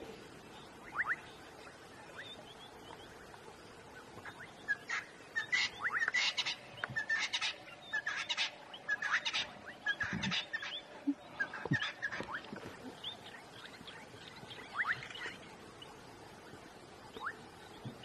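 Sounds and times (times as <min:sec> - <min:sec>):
birds chirping: 0:00.0 - 0:18.0
rapid repeated bird calls: 0:00.0 - 0:18.0.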